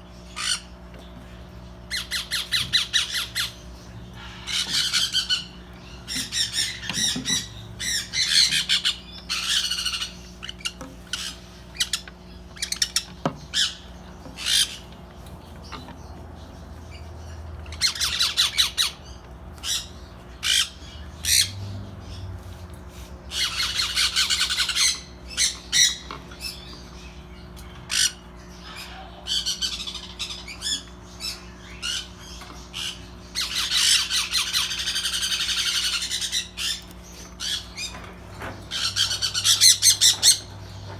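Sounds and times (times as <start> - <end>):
steady low hum: 0.0 - 40.9
parrots squawking: 0.2 - 0.7, 1.9 - 22.2, 23.3 - 40.9.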